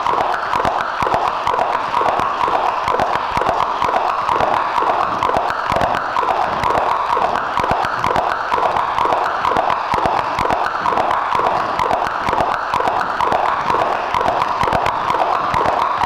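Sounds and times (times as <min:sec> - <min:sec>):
electronic blips and clicks: 0:00.0 - 0:16.0.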